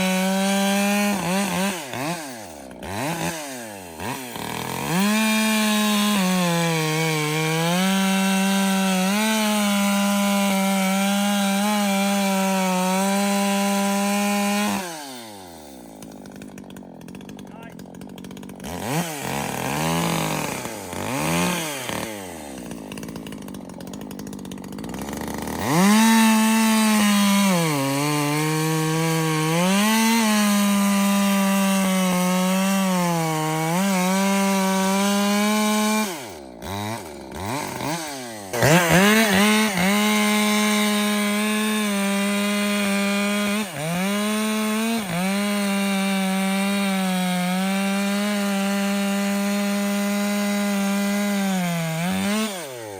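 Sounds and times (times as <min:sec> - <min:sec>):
chainsaw cutting a log: 0:00.0 - 0:52.9.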